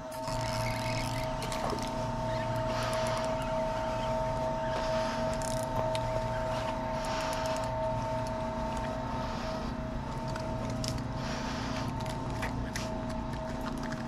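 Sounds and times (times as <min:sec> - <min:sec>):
pulsing hiss: 0:00.0 - 0:13.1
machine hum: 0:00.0 - 0:14.0.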